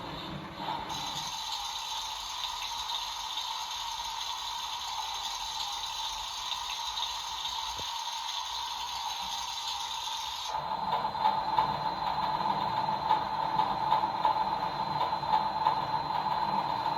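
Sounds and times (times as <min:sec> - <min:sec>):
toy washing machine hissing: 0:00.0 - 0:16.9.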